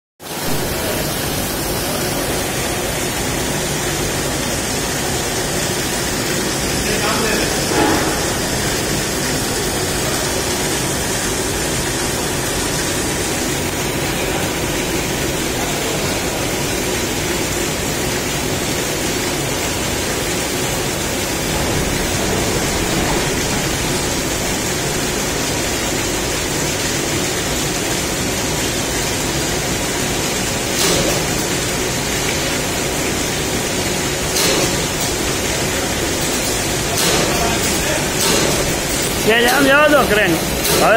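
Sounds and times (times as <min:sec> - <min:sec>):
furnace roaring: 0:00.2 - 0:40.9.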